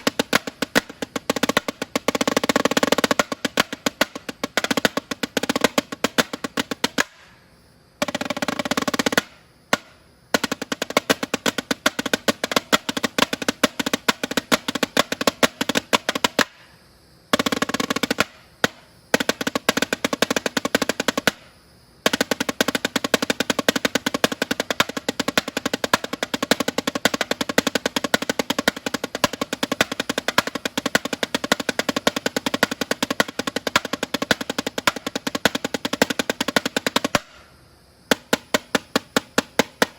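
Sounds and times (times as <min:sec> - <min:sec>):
snare drum played with sticks: 0:00.0 - 0:07.2, 0:08.0 - 0:16.6, 0:17.4 - 0:37.4, 0:38.1 - 0:39.9
snare drum rolls: 0:00.0 - 0:07.3, 0:08.0 - 0:16.6, 0:17.3 - 0:37.4, 0:38.1 - 0:39.9.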